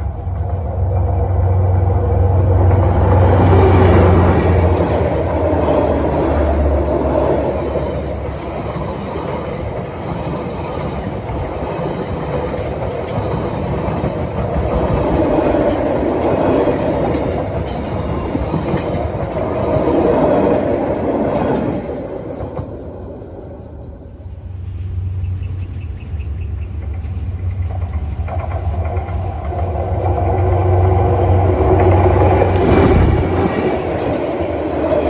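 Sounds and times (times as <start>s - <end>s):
train wheels rolling on rails: 0.0s - 35.0s.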